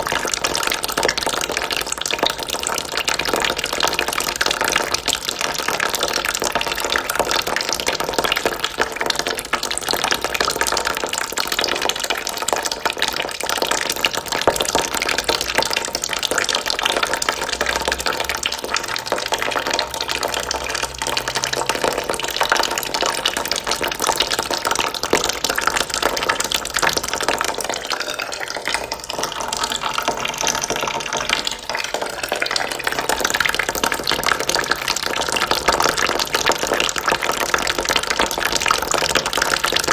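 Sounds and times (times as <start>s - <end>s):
water trickling into a bucket: 0.0s - 39.9s.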